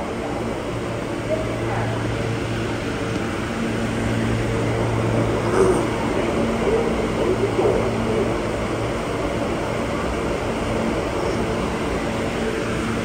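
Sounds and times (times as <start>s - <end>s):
subway wheel and track noise: 0.0s - 13.0s.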